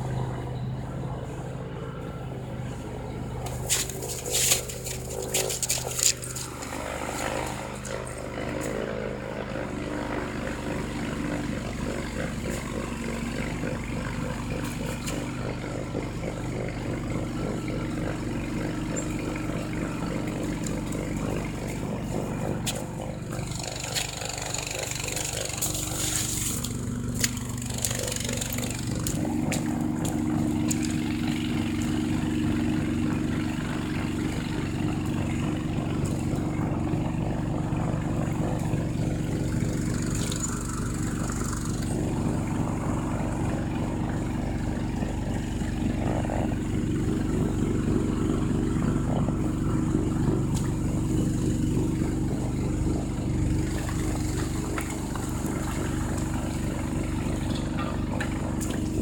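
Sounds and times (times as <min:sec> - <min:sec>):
snowblower engine running: 0:00.0 - 0:59.0.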